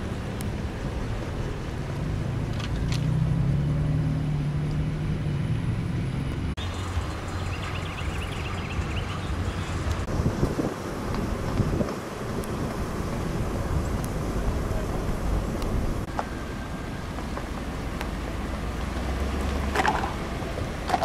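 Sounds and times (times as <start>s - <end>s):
rough low rumble: 0.0s - 21.0s
vehicle engine humming: 0.0s - 21.0s
wind noise on microphone: 0.0s - 21.0s.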